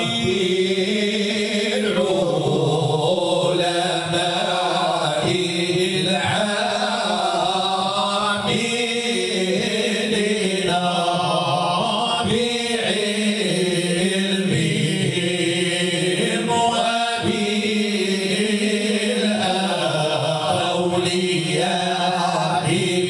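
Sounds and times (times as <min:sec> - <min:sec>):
men chanting through microphones: 0:00.0 - 0:23.0.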